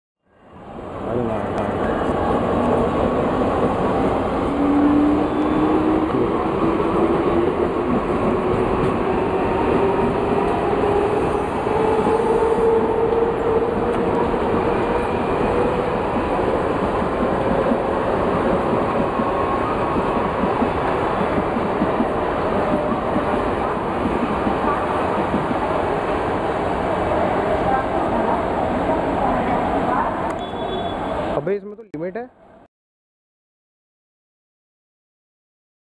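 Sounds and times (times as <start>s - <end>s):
train running noise: 0.6s - 31.4s.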